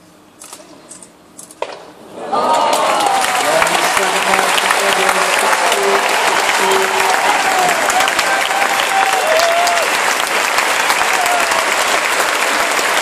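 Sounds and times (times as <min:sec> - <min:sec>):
crowd applauding: 0:02.2 - 0:13.0.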